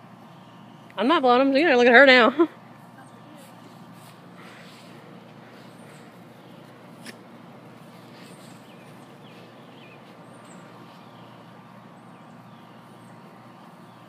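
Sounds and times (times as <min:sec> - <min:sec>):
small birds chirping: 0:00.0 - 0:01.0, 0:02.6 - 0:14.0
steady background hum: 0:00.0 - 0:14.0.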